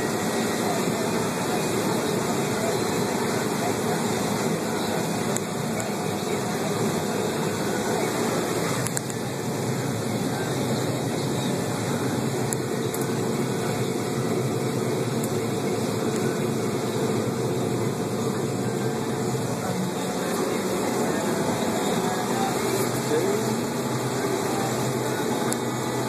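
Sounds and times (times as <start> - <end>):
combine harvester droning: 0.0 - 26.0.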